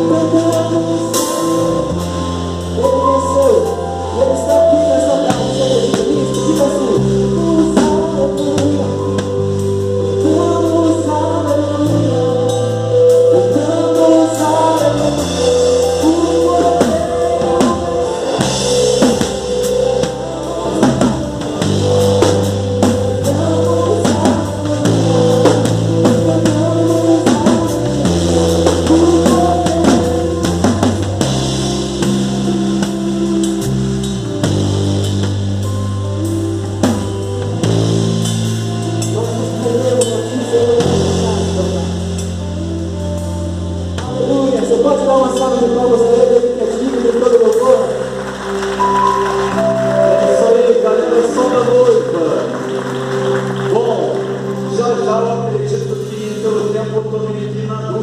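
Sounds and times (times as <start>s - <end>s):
drum kit beat: 0.0s - 10.9s, 11.5s - 54.8s
bass line: 0.0s - 58.0s
melodic lines: 0.0s - 58.0s.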